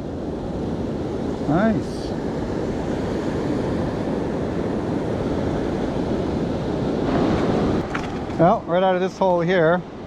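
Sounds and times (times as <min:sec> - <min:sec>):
ocean surf waves: 0:00.0 - 0:10.0
wind on microphone: 0:00.0 - 0:10.0.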